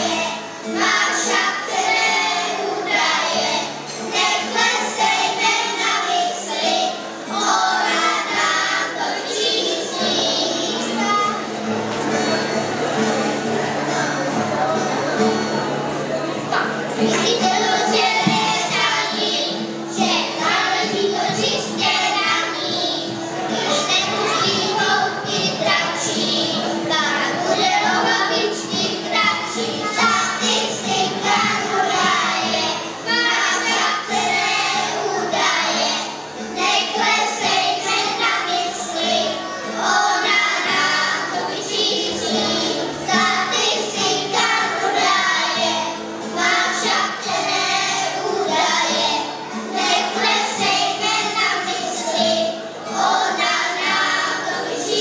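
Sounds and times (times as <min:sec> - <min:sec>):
acoustic guitar: 0:00.0 - 0:55.0
children singing: 0:00.0 - 0:55.0.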